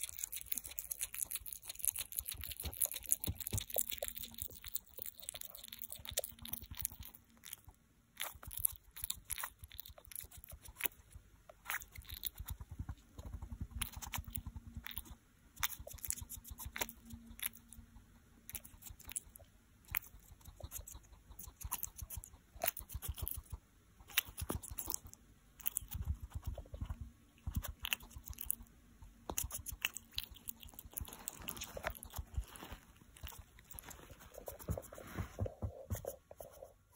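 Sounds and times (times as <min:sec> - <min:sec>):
hedgehog chewing crunchily: 0:00.0 - 0:36.7.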